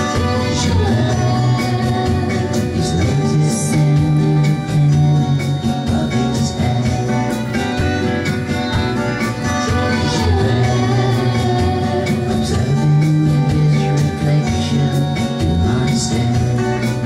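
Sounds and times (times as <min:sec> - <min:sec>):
band music with steady beat: 0:00.0 - 0:17.0.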